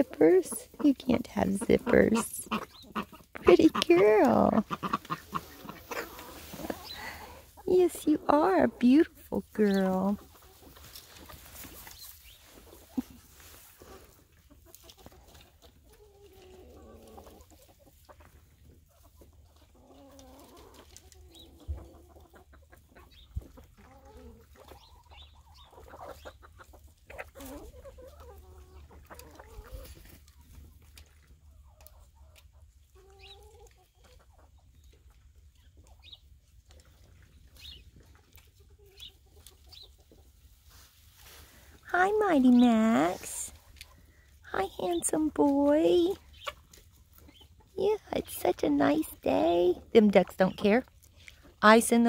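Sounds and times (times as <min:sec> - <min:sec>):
chickens clucking softly: 0:00.0 - 0:41.4, 0:42.4 - 0:51.8.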